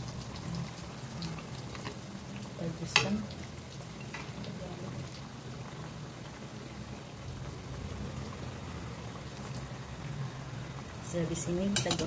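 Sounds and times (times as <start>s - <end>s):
deep-frying sizzle in oil: 0.0s - 12.0s.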